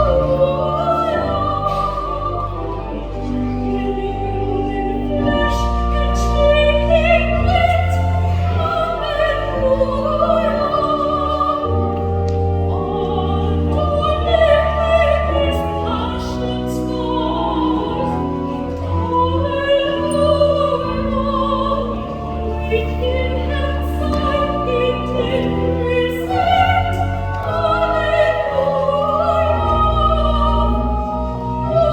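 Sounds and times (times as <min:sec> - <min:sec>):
organ chords: 0:00.0 - 0:31.9
soprano singing with vibrato: 0:00.0 - 0:31.9.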